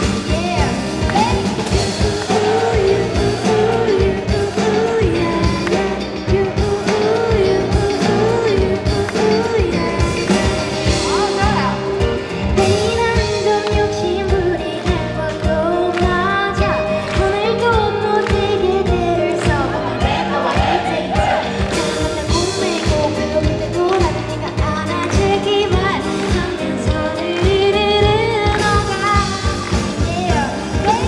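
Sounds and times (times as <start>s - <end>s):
woman singing into microphone: 0.0s - 11.9s, 12.6s - 31.0s
steady drum beat: 0.0s - 14.0s, 17.2s - 31.0s.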